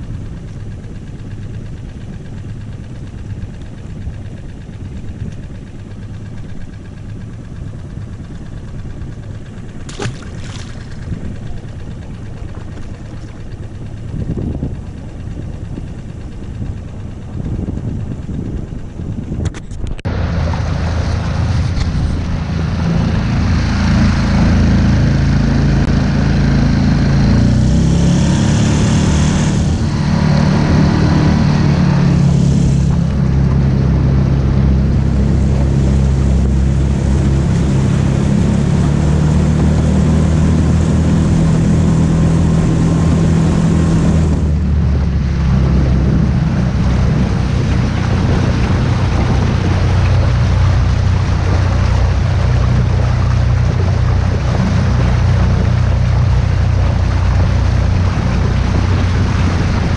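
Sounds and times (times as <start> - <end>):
outboard motor running: 0.0 - 59.9
water splashing along hull: 0.0 - 59.9.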